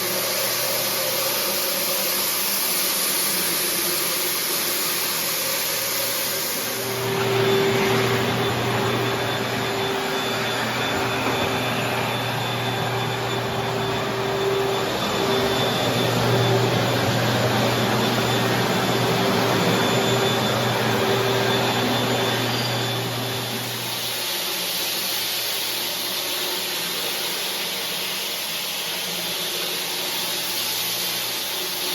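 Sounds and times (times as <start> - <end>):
vacuum motor whirring: 0.0 - 31.9.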